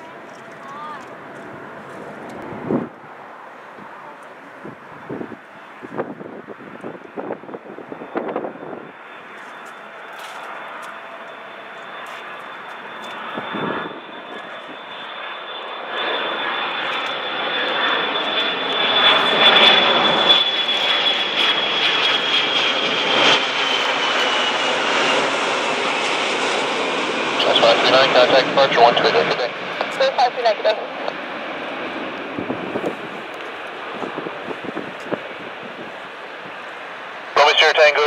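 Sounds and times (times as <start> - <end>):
high jet engine whine: 0.0 - 38.0
jet engine roar: 0.0 - 38.0.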